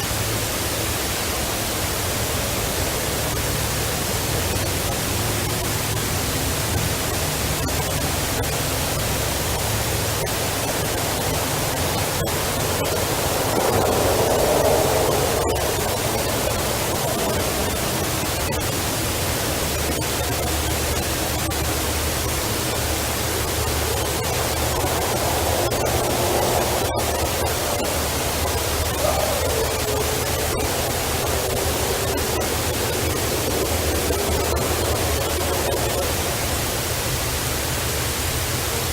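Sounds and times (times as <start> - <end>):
faint drawn-out sounds: 0.0 - 38.9
loud hiss: 0.0 - 38.9.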